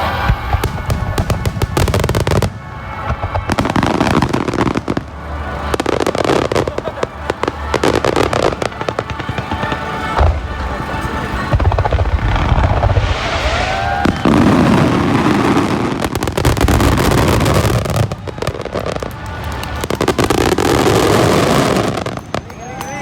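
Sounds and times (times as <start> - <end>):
firework whistle: 0.0 - 23.0
fireworks booming and crackling: 0.0 - 23.0.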